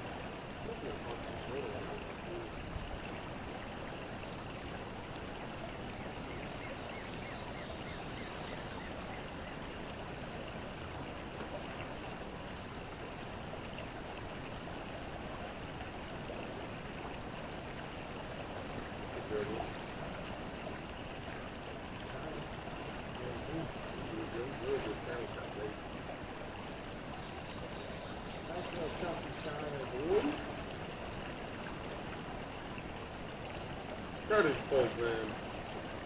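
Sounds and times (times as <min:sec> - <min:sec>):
creek water flowing: 0:00.0 - 0:36.0.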